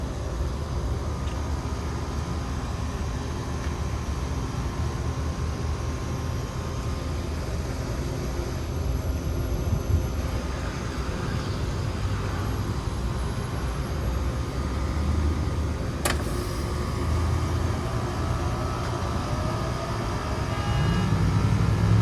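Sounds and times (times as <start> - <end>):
air conditioner humming: 0.0 - 22.0
air conditioner whine: 0.0 - 22.0.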